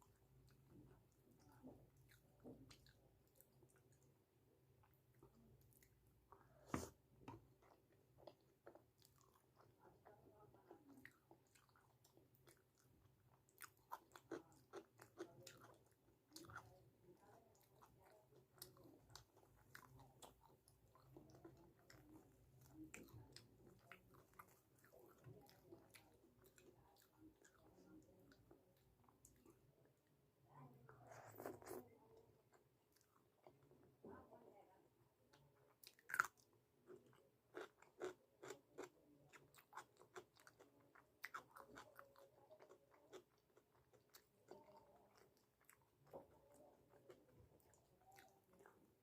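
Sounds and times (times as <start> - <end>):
chewing food: 0.0 - 49.0.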